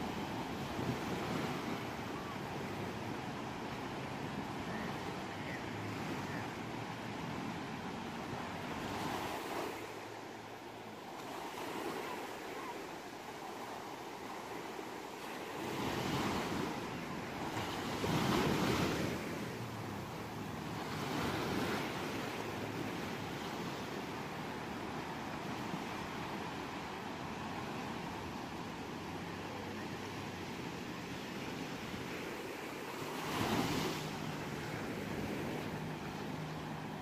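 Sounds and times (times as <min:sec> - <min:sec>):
sea waves washing onto shore: 0:00.0 - 0:37.0.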